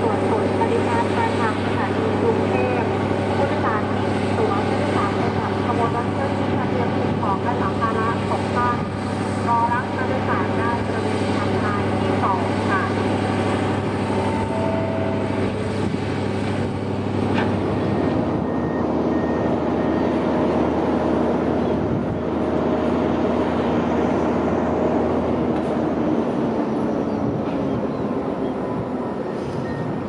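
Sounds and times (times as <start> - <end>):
diesel train engine drone: 0.0 - 30.0
wheels rushing on rails: 0.0 - 30.0.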